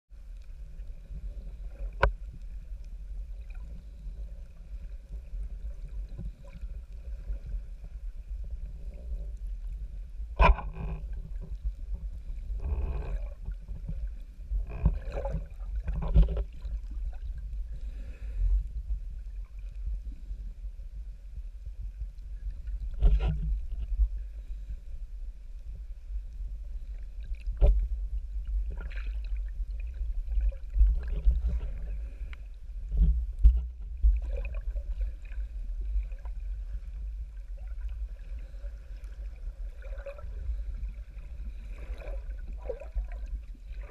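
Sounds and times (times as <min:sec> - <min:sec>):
low rumble of moving water: 0:00.1 - 0:43.9.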